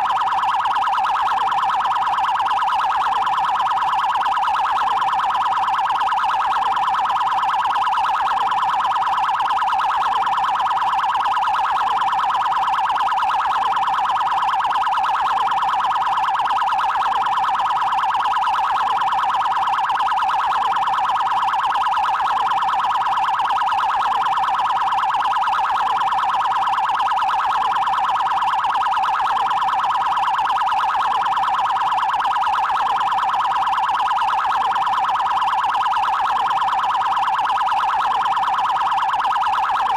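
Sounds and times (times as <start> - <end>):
pulsing electronic siren warble: 0.0 - 39.9.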